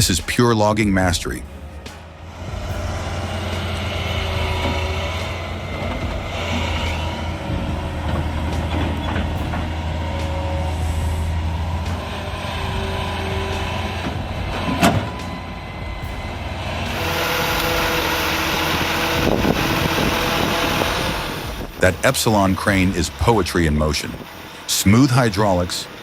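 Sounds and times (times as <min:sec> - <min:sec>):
heavy vehicle engine running: 0:00.0 - 0:26.0.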